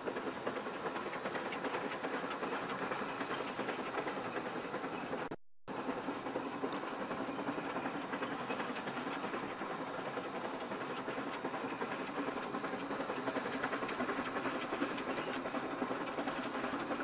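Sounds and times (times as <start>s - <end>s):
steam locomotive clattering: 0.0s - 17.0s.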